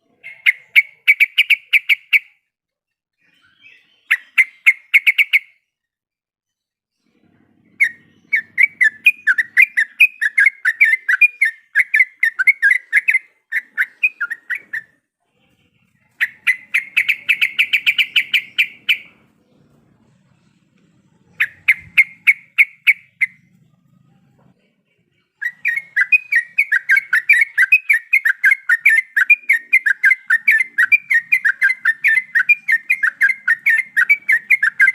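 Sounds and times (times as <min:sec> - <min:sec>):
bird chattering and trilling: 0:00.0 - 0:02.4, 0:03.2 - 0:05.7, 0:07.6 - 0:15.0, 0:15.8 - 0:24.1, 0:24.9 - 0:34.9.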